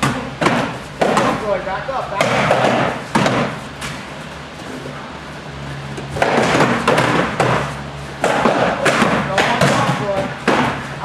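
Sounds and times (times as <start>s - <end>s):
padded practice weapons striking: 0.0s - 4.0s, 6.1s - 11.0s.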